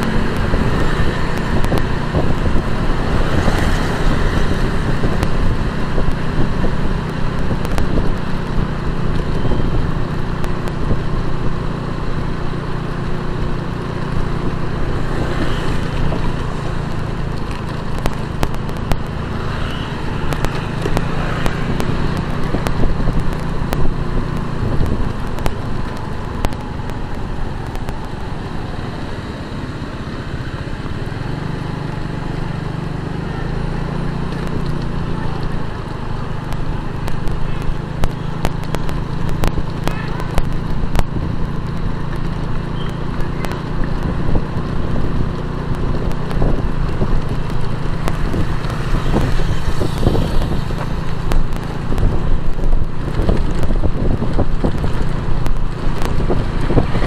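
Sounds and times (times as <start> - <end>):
wind noise on microphone: 0.0 - 29.9, 30.6 - 57.0
motorcycle engine: 0.0 - 57.0
road traffic noise: 0.0 - 57.0.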